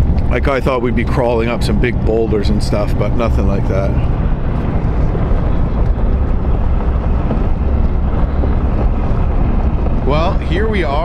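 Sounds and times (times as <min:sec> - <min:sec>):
pickup truck engine rumble: 0:00.0 - 0:11.0
tyres rolling on road: 0:00.0 - 0:11.0.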